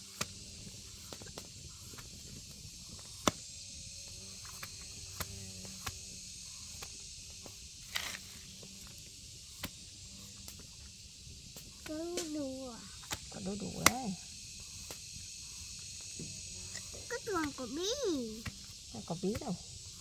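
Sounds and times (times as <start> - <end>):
high background hiss: 0.0 - 20.0.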